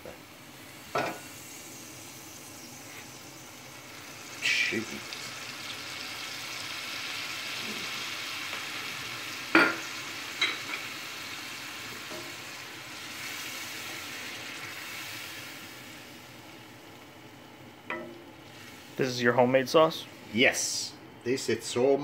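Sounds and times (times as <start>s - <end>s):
sauce sizzling in hot oil: 0.0s - 20.8s.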